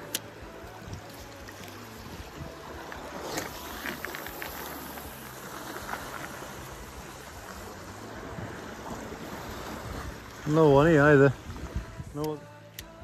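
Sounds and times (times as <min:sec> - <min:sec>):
sea water lapping on rocks: 0:00.0 - 0:12.0
wind on microphone: 0:00.4 - 0:12.3.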